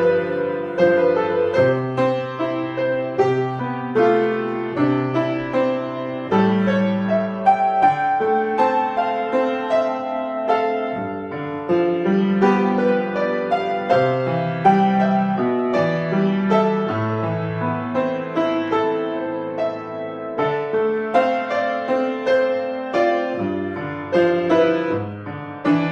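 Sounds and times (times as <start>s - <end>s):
solo piano piece: 0.0s - 25.9s.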